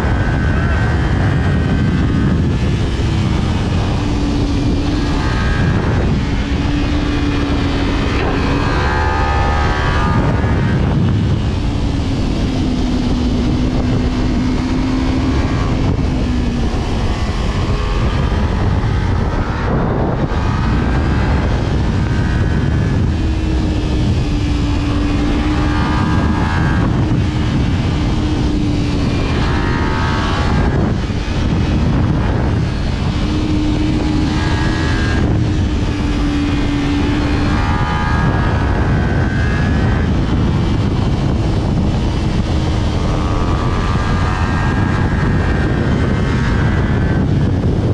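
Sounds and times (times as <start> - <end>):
motorcycle engine accelerating: 0.0 - 47.9
wind rush: 0.0 - 47.9.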